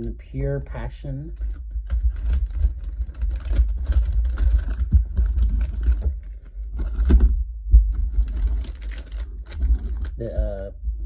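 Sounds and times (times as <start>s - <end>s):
plastic crinkling and rustling: 1.3s - 10.2s.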